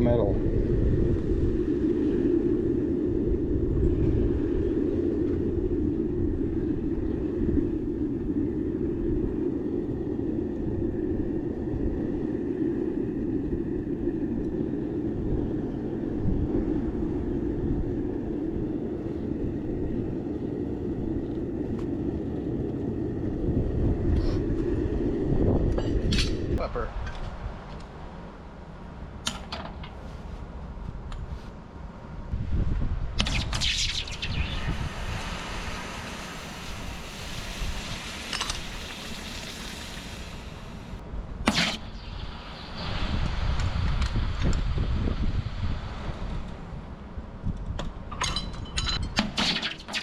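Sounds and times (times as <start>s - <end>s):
steady rushing roar: 0.0s - 48.6s
wind buffeting microphone: 0.0s - 50.0s.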